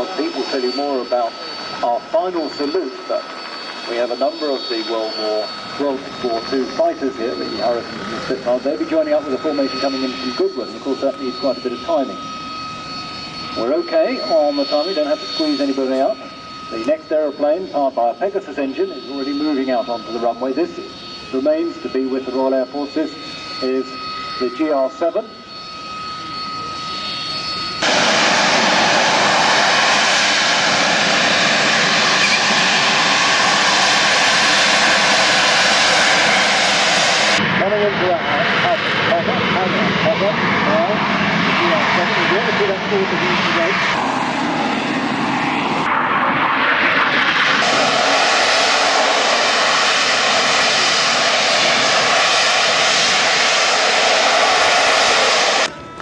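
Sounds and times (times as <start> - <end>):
jet noise rushing: 0.0 - 55.9
jet engine whine: 0.0 - 56.0.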